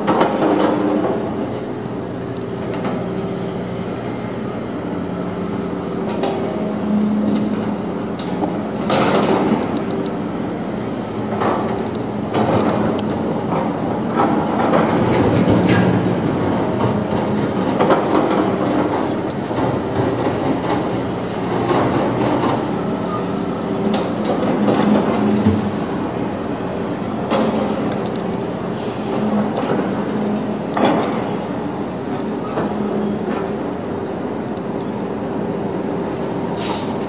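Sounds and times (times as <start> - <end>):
crane engine running: 0.0 - 37.0.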